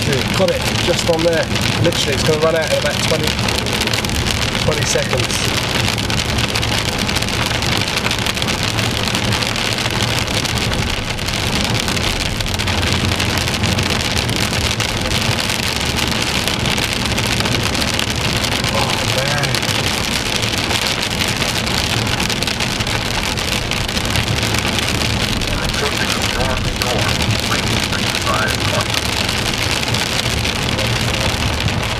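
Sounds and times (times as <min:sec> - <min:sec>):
heavy rain on a car: 0:00.0 - 0:31.9
low rumble: 0:00.0 - 0:31.9.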